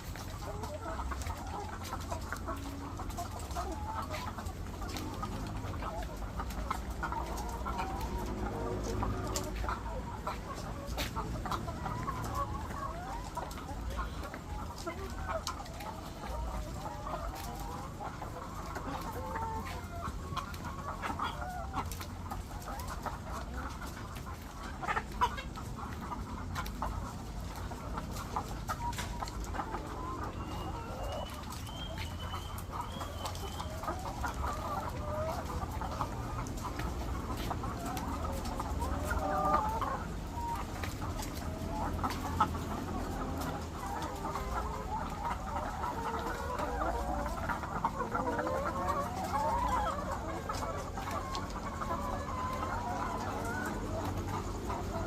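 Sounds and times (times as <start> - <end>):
hens clucking: 0.0 - 55.0.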